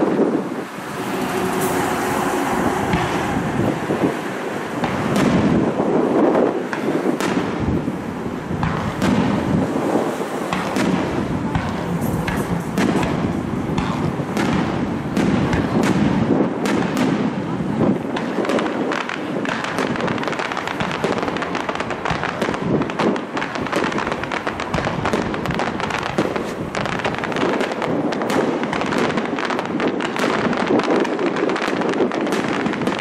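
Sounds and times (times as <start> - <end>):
firework shells bursting: 0.0 - 33.0.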